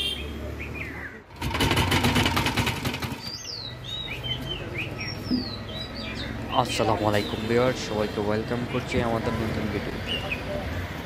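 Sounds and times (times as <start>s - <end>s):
birds chirping: 0.0s - 1.4s, 3.0s - 10.8s.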